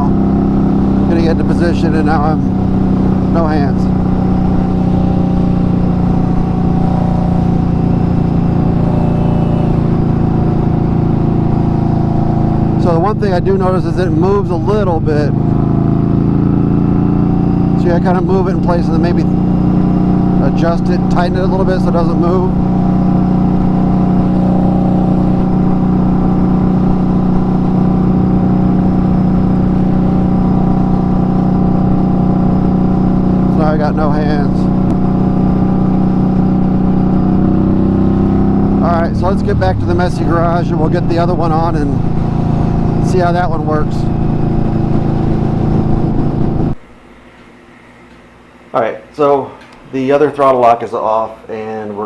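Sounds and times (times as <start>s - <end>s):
motorcycle engine cruising: 0.0s - 47.3s.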